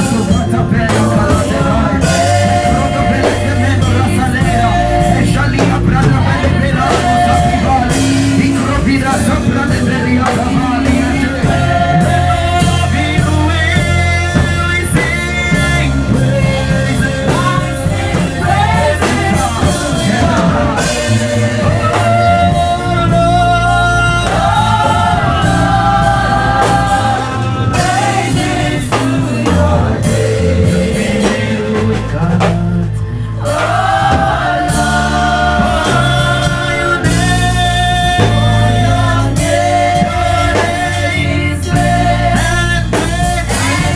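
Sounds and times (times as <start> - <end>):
worship song with band: 0.0 - 43.9.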